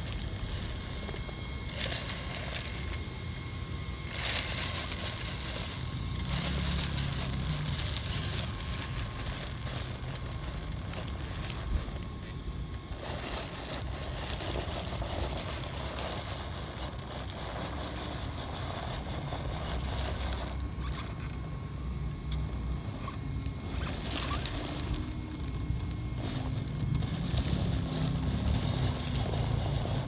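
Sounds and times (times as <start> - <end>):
toy car drivetrain running: 0.0 - 3.3, 4.0 - 21.4, 22.2 - 30.0.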